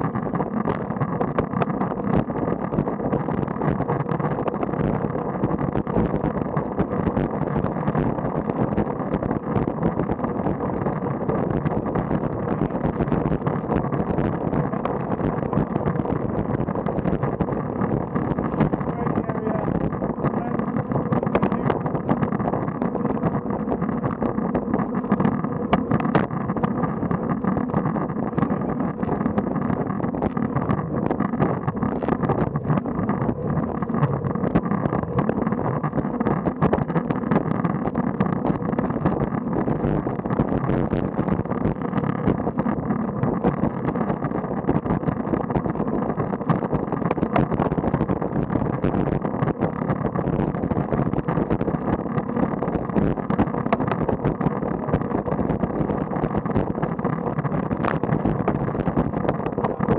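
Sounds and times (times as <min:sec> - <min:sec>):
small clicks and rattles: 0:00.0 - 0:59.9
wind and road noise: 0:00.0 - 0:59.9.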